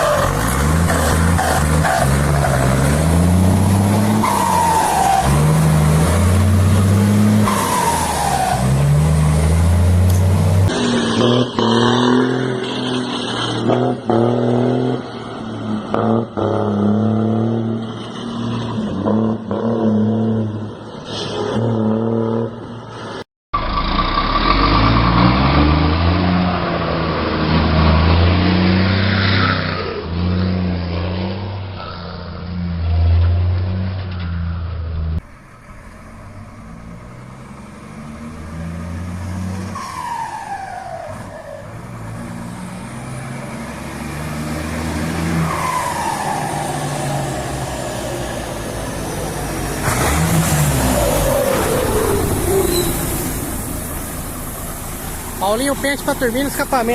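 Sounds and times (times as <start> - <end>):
truck diesel engines accelerating: 0.0 - 56.9.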